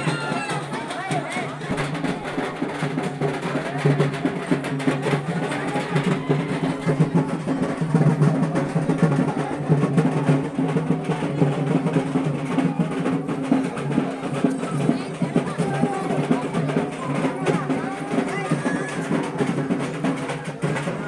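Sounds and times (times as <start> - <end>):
fast drum roll: 0.0 - 21.0.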